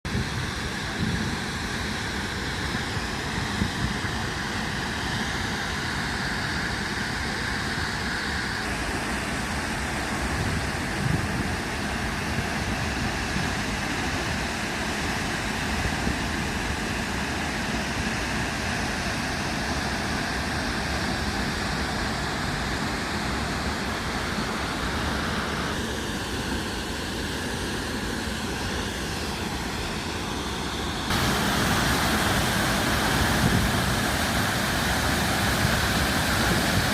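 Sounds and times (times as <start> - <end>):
waterfall roaring: 0.2 - 36.9.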